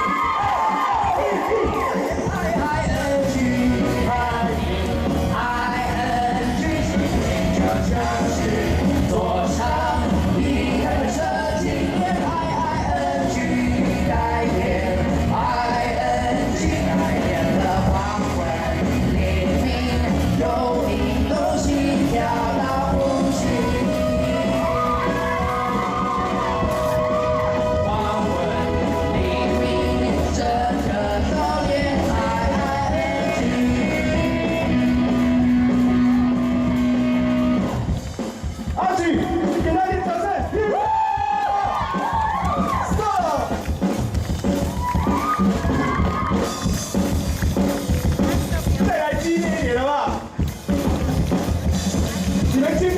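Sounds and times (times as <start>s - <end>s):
pop-rock song over loudspeakers: 0.0s - 52.9s.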